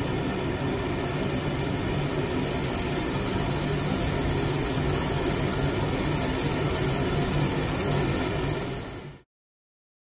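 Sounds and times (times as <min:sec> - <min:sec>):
laser engraving machine humming: 0:00.0 - 0:09.2.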